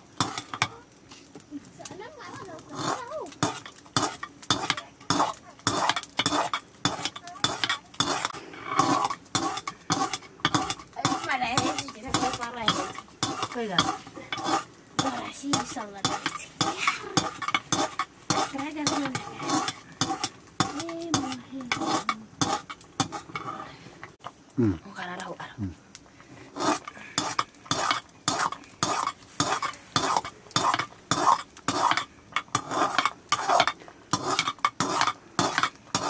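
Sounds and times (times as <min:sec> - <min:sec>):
metal ladle scraping metal pot: 0:00.2 - 0:00.7, 0:02.7 - 0:24.2, 0:26.4 - 0:36.0.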